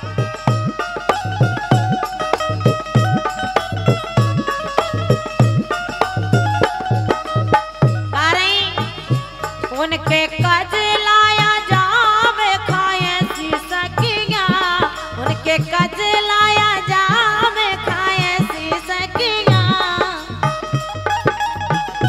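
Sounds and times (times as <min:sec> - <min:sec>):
hand drum beating: 0:00.0 - 0:22.0.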